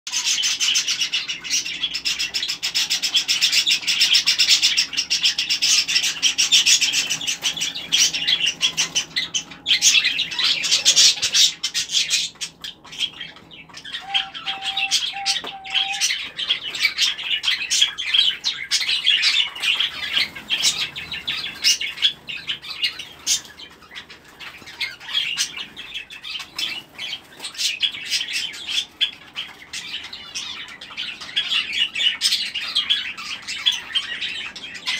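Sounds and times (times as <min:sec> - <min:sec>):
small birds chattering and chirping: 0:00.1 - 0:34.9.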